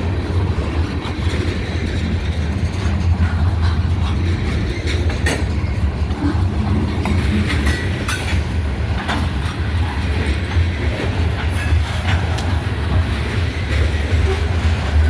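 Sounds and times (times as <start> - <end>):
freight train rumble: 0.0 - 15.0
train wheels clicking over rail joints: 0.0 - 15.0.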